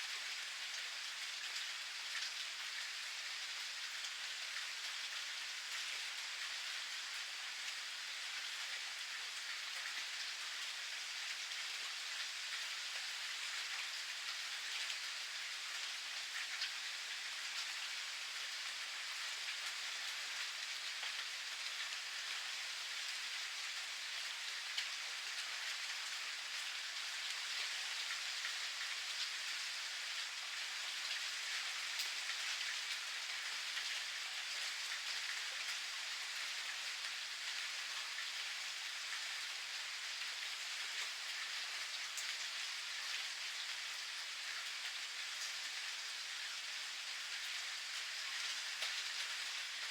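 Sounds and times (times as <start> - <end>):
steady rain patter: 0.0 - 49.9.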